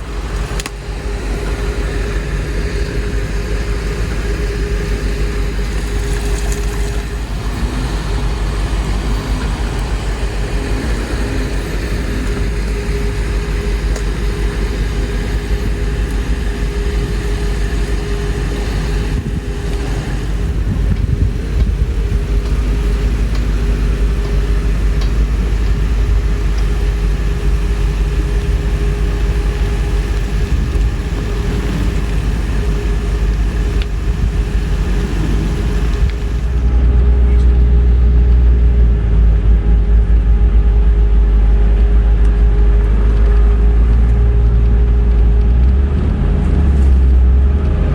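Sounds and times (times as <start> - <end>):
truck engine low rumble: 0.0 - 47.9.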